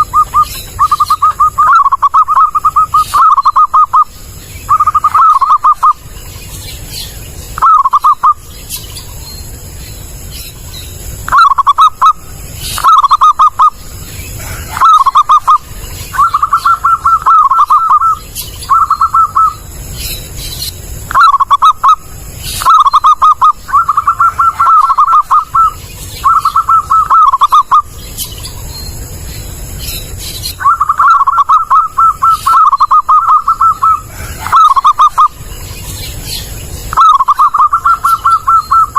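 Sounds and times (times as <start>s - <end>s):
dove cooing: 0.0s - 6.2s, 7.6s - 8.5s, 11.1s - 20.3s, 20.9s - 27.9s, 30.6s - 38.9s.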